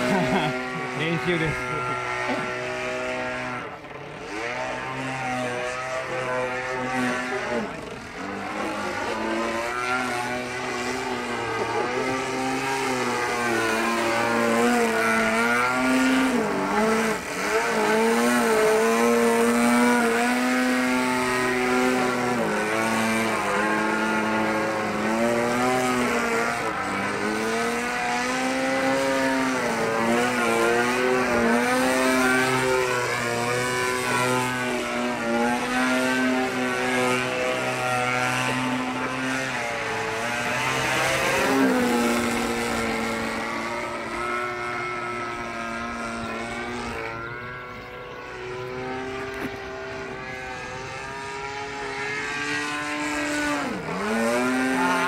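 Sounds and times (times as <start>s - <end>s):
model airplane engine: 0.0s - 55.0s.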